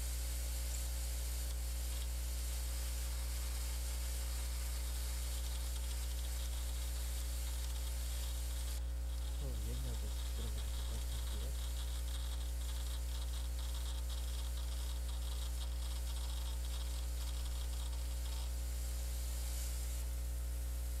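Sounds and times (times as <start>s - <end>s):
faint hiss: 0.0s - 21.0s
computer fans humming: 1.4s - 19.4s.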